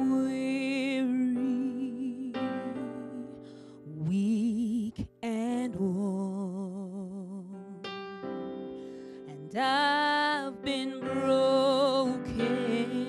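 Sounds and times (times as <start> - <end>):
woman singing with vibrato: 0.0 - 7.8, 9.3 - 13.0.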